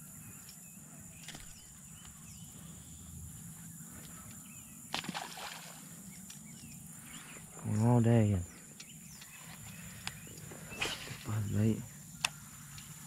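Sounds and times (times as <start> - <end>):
faint chirps: 0.0 - 13.0.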